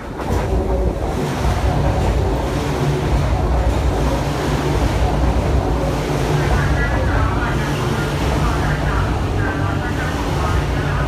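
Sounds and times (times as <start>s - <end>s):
low hum: 0.0s - 11.0s
train wheels rushing on rails: 0.0s - 11.0s.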